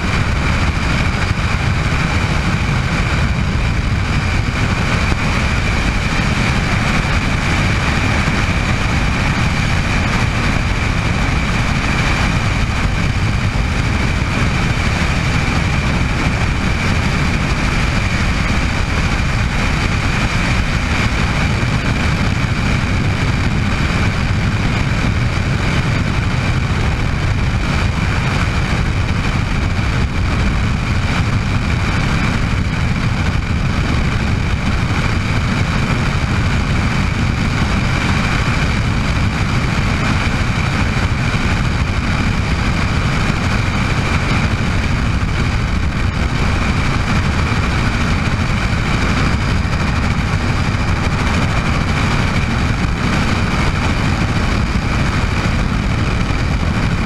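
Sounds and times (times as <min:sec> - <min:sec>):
helicopter rotor rumble: 0:00.0 - 0:57.0
turbine engine whine: 0:00.0 - 0:57.0.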